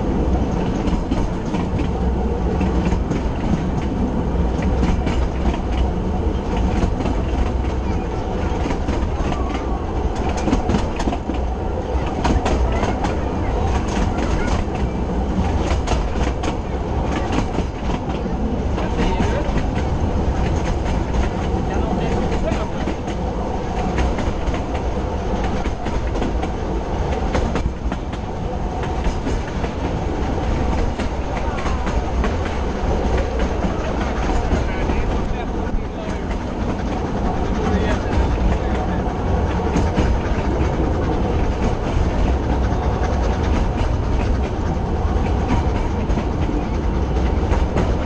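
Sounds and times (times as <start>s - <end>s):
train wheels rumbling: 0.0s - 48.0s.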